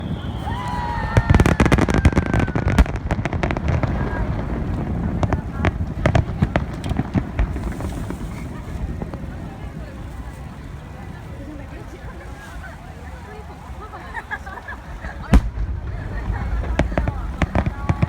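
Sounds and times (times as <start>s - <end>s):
fireworks crackling and popping: 0.0s - 18.0s.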